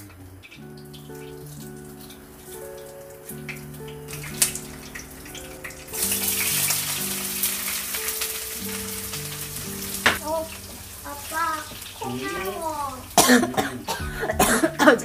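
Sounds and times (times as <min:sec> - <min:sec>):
background music: 0:00.0 - 0:15.0
vegetables sizzling in hot oil: 0:00.5 - 0:13.2.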